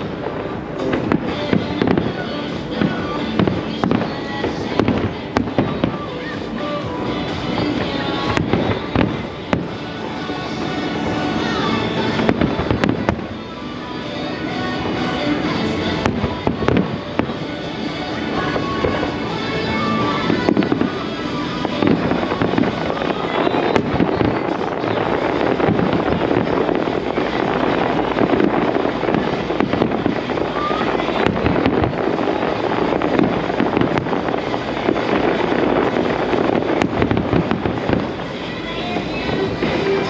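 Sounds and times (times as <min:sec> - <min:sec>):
fireworks bangs and crackles: 0:00.0 - 0:40.0
music playing: 0:00.0 - 0:40.0.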